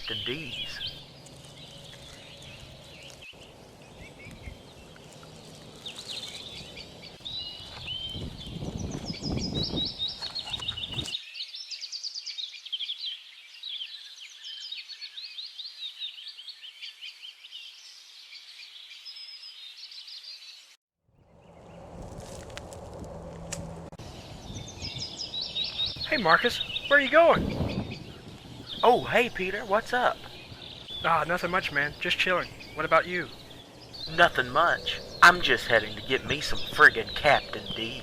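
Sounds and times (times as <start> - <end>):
songbirds chirping and trilling: 0.0 - 22.6, 23.8 - 38.0
outdoor background noise: 0.0 - 38.0.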